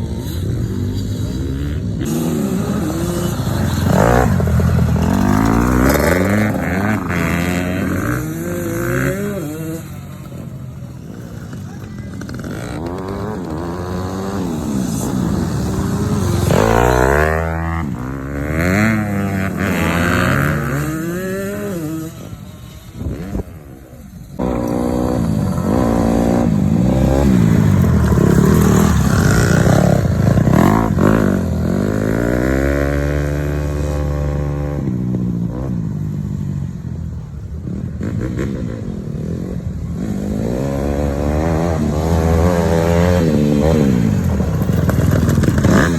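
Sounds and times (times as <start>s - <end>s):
small two-stroke engine revving: 0.0s - 35.8s, 38.0s - 45.9s.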